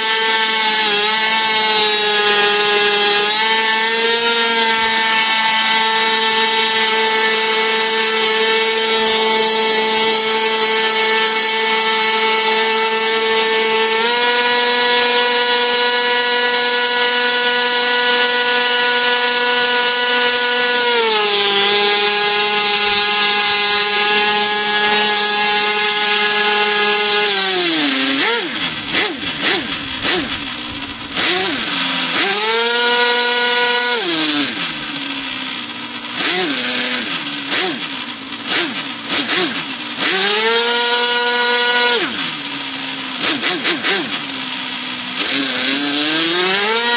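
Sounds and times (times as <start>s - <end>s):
model engine revving: 0.0s - 46.9s.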